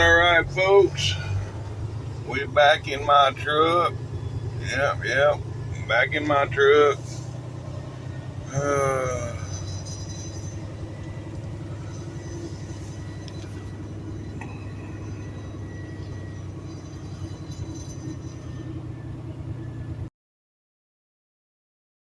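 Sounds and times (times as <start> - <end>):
diesel truck engine rumbling: 0.0 - 20.1.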